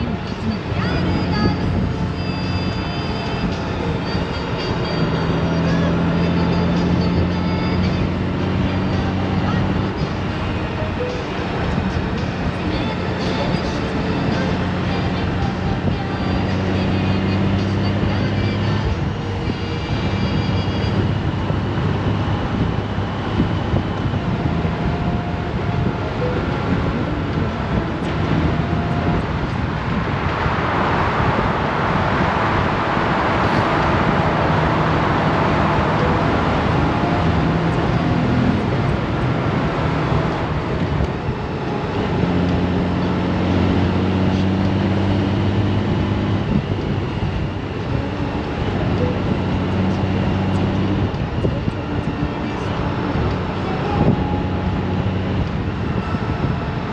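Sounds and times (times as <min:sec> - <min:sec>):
motorcycle engine cruising: 0:00.0 - 0:56.9
wind and road noise: 0:00.0 - 0:56.9.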